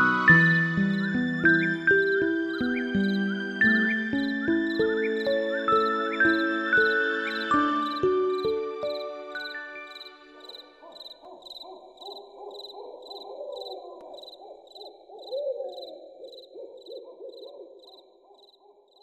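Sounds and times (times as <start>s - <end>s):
owl hooting: 0.0s - 18.7s
crickets chirping: 0.0s - 19.0s.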